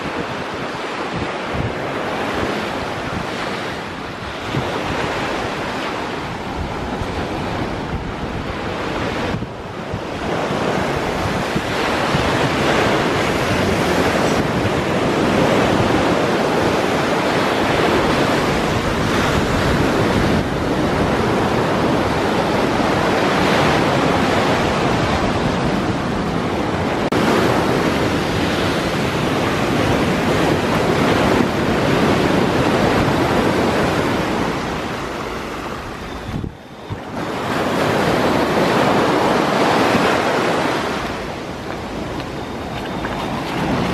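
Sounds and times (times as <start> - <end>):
rough sea waves breaking: 0.0 - 43.9
wind on microphone: 0.0 - 43.9.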